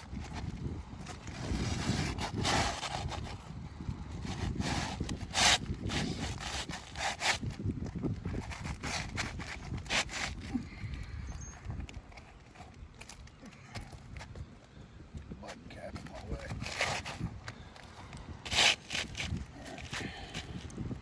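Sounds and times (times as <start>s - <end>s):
tool scraping roof shingles: 0.0s - 3.5s, 4.1s - 14.4s, 15.5s - 20.8s.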